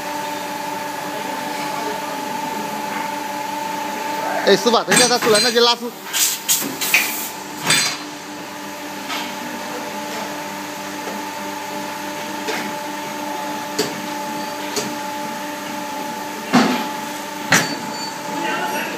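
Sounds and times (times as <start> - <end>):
welding machine hum and whine: 0.0 - 18.9.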